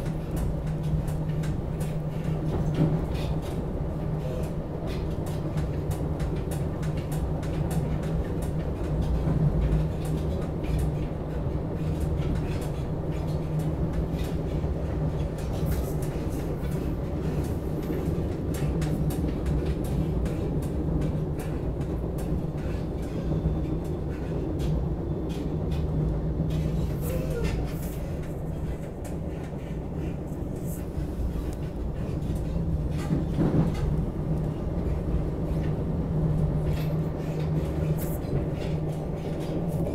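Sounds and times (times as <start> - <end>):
train interior hum and rumble: 0.0 - 39.9.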